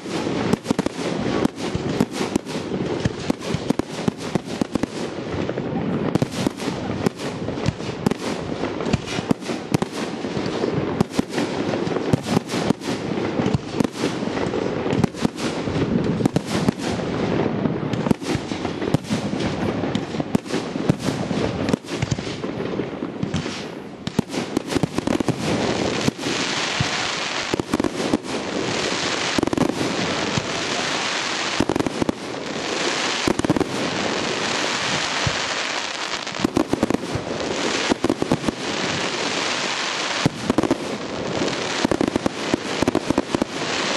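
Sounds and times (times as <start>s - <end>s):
fireworks bangs and pops: 0.0s - 43.9s
hissing fireworks crackle: 0.0s - 43.9s.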